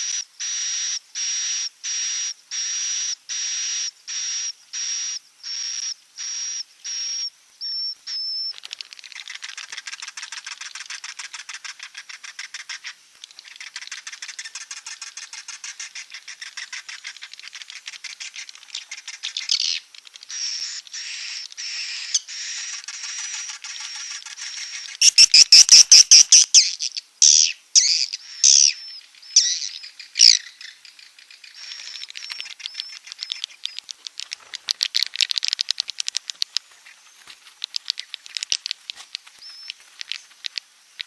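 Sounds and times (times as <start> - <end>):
fast twittering rattle: 5.5 - 41.0
high bird chirps: 6.9 - 40.6.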